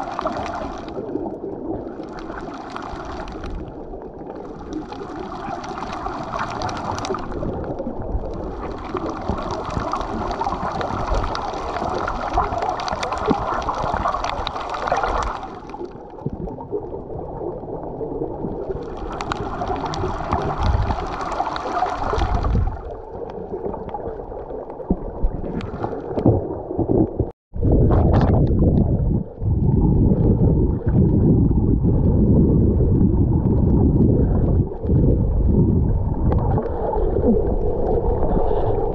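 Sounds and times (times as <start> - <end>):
deep underwater rumbling: 0.0 - 38.9
muffled underwater water rushing: 0.0 - 38.9.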